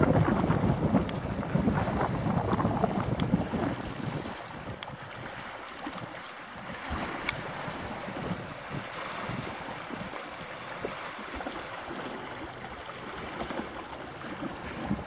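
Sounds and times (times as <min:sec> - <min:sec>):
small waves: 0:00.0 - 0:15.0
wind buffeting the microphone: 0:00.0 - 0:15.0.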